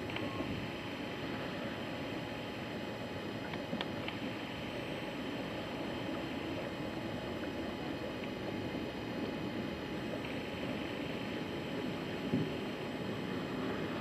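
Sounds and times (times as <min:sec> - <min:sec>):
wind and choppy water rushing: 0:00.0 - 0:04.6, 0:06.0 - 0:14.0.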